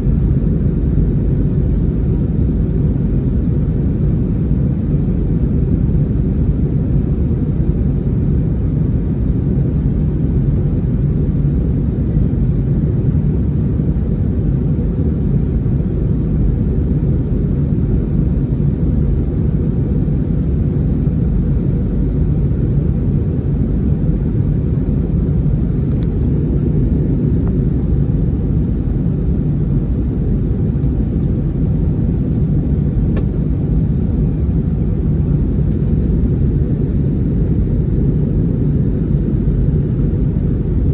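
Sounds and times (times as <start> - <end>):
aircraft engine rumble in cabin: 0.0 - 40.9.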